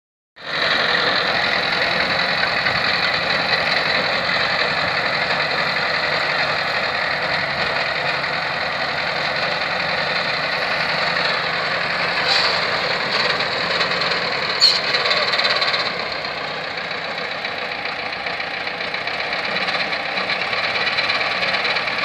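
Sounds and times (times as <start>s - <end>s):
tractor diesel engine running: 0.4s - 22.0s.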